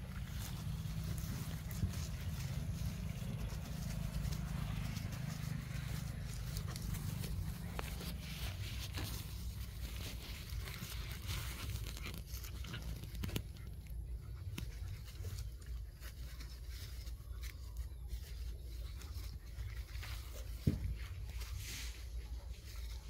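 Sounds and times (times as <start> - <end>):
dogs scuffling on grass: 0.0 - 23.0
steady low rumble: 0.0 - 23.0.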